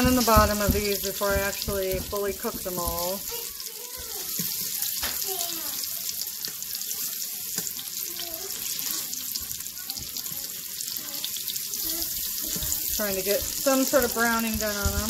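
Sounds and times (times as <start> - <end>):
meatballs sizzling in a pot: 0.0 - 15.0.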